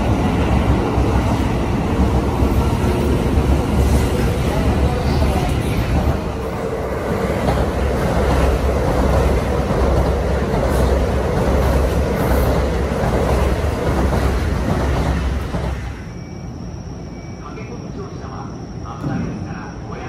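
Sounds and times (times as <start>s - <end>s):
train wheels rumbling on rails: 0.0s - 16.1s.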